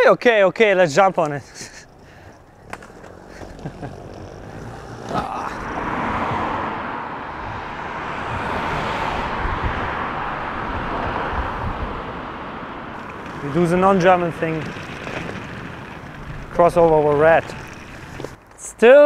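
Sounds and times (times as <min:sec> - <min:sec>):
skate wheels rolling on pavement: 0:00.6 - 0:19.0.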